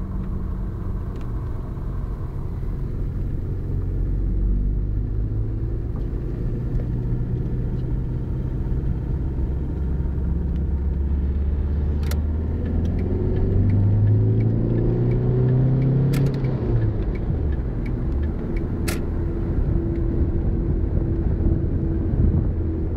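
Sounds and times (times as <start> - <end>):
car engine and road rumble: 0.0 - 22.9.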